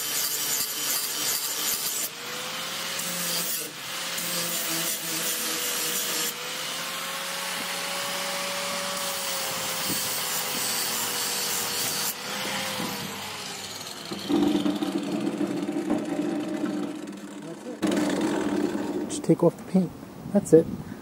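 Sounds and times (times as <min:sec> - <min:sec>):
grinder whine: 0:00.0 - 0:19.2.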